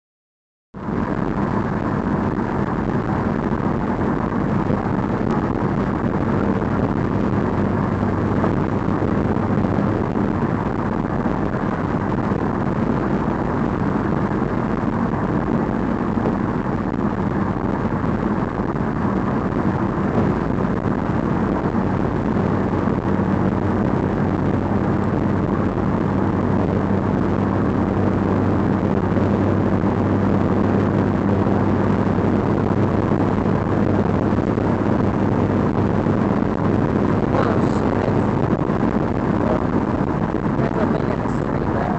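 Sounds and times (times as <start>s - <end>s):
engine humming: 0.8s - 41.9s
rushing noise: 0.8s - 41.9s.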